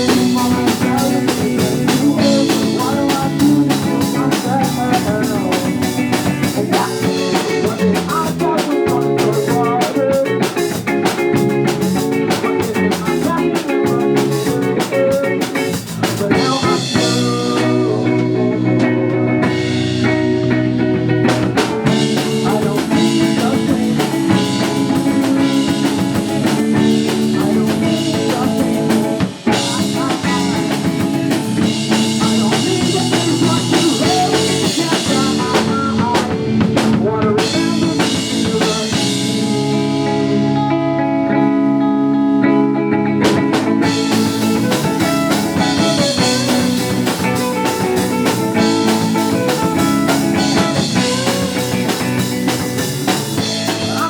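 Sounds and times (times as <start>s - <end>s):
drum kit: 0.0s - 40.1s, 43.2s - 54.0s
electric guitar: 0.0s - 54.0s.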